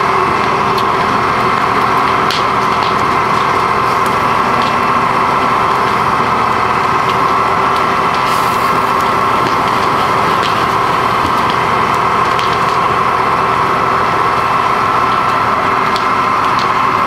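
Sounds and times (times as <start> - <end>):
fire crackling: 0.0 - 17.0
fire engine droning: 0.0 - 17.0.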